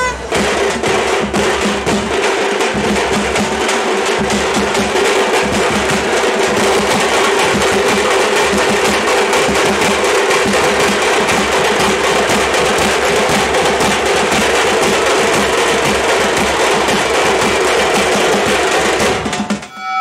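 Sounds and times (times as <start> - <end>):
street band drumming: 0.0 - 19.8.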